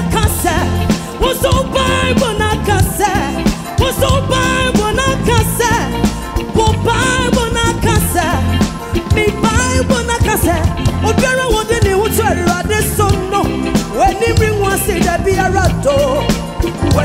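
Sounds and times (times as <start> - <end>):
band with bass and drums: 0.0 - 17.0
women singing with vibrato: 0.0 - 17.0.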